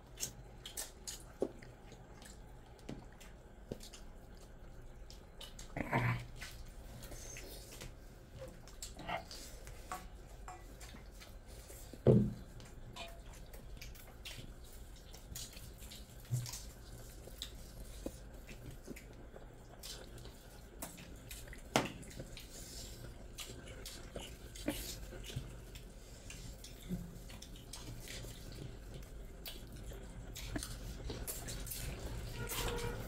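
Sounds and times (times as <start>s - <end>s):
chewing: 0.0s - 33.0s.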